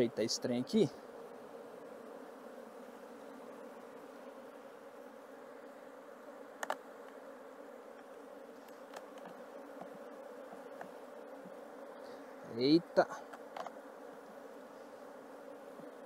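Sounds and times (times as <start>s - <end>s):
honeybees humming: 0.0s - 16.0s.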